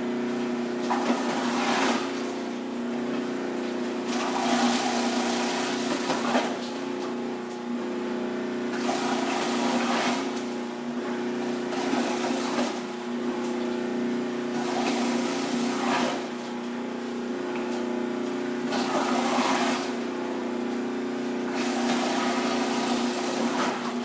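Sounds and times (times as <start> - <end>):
food processor motor hum: 0.0 - 24.0.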